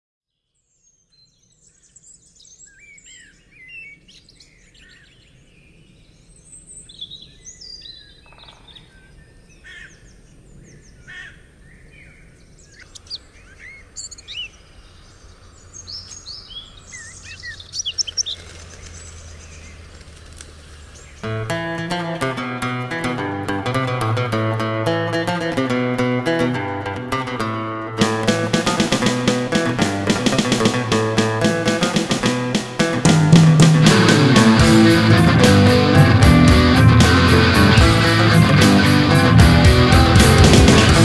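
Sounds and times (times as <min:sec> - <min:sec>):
songbirds chirping: 0:00.3 - 0:41.0.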